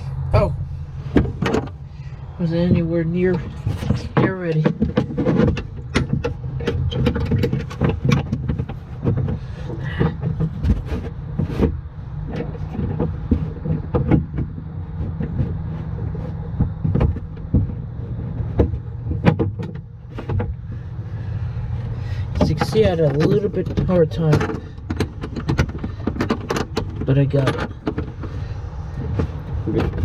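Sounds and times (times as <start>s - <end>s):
low engine hum: 0.0s - 30.0s
metal clicks and knocks: 1.0s - 20.9s, 21.8s - 30.0s.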